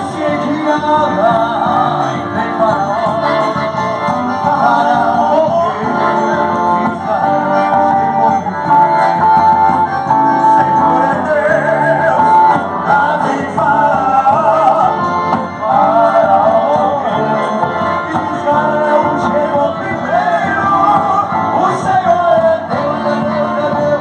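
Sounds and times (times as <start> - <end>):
instrumental backing music: 0.0 - 24.0
person singing: 0.0 - 24.0.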